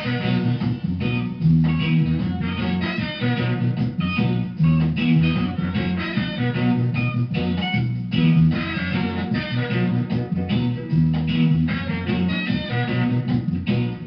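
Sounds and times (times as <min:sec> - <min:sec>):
guitar-led background music: 0:00.0 - 0:14.0.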